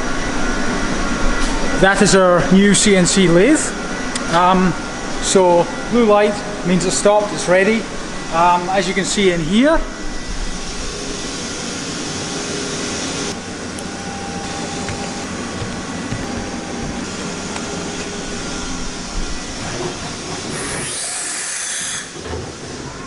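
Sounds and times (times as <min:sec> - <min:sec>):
faint machine hum: 0:00.0 - 0:23.0
machine shop hissing: 0:00.0 - 0:23.0.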